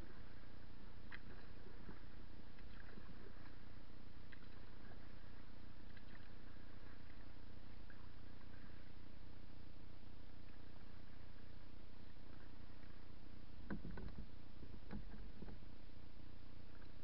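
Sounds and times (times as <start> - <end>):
water lapping against hull: 0.0 - 9.4, 10.2 - 15.9.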